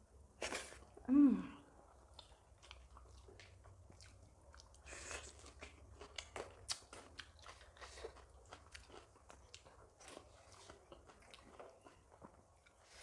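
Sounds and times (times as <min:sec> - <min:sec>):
chewing with wet smacks: 0:01.8 - 0:13.0.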